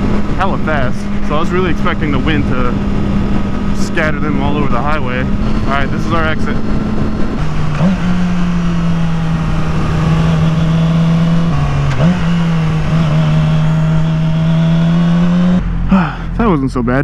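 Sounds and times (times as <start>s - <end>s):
wind rush: 0.0s - 15.6s
motorcycle engine at high revs: 0.0s - 16.5s.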